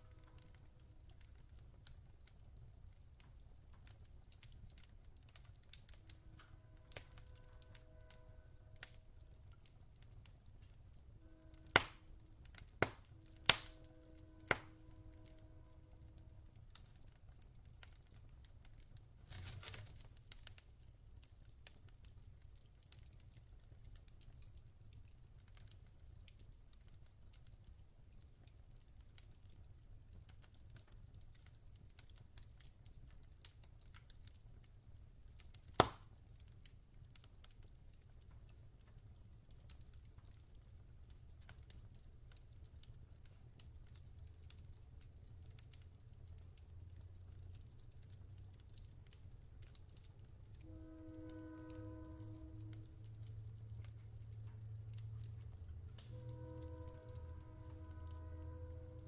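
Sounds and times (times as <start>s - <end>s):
log fire crackling and popping: 0.0s - 59.0s.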